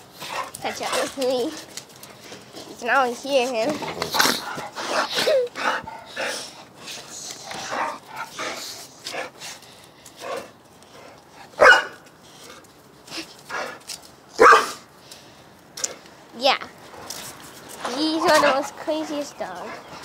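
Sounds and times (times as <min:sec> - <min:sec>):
dogs snarling and barking: 0:00.0 - 0:14.9, 0:16.8 - 0:20.0.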